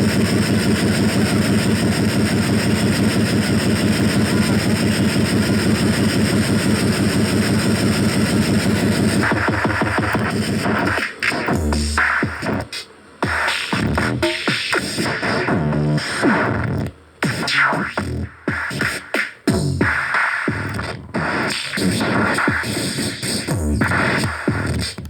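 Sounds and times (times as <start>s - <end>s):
choppy electronic music: 0.0s - 25.0s.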